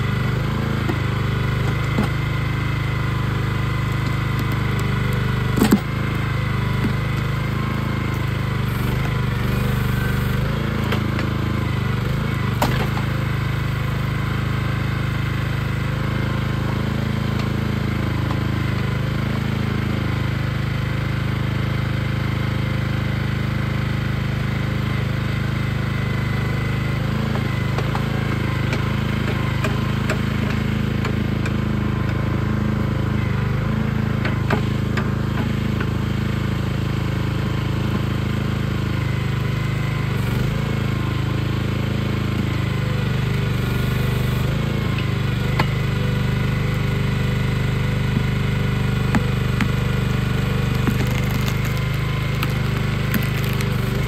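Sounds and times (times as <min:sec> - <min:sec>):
hydraulics working digging arm: 0:00.0 - 0:20.4, 0:23.4 - 0:54.0
small gasoline engine running: 0:00.0 - 0:54.0.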